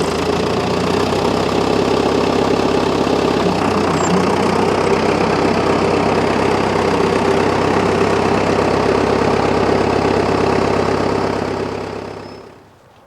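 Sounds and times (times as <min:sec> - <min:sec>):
diesel tractor engine idling: 0:00.0 - 0:12.8.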